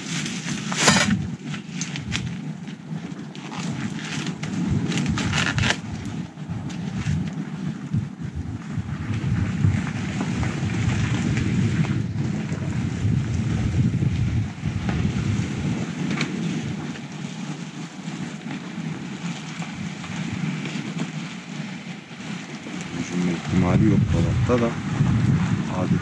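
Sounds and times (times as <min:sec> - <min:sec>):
charcoal fire crackling: 0:00.0 - 0:26.0
wind buffeting microphone: 0:00.0 - 0:26.0.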